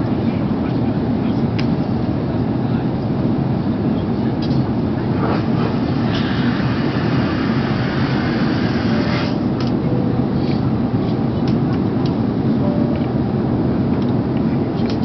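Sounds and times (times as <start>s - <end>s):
airplane cabin airflow and engines: 0.0s - 15.0s.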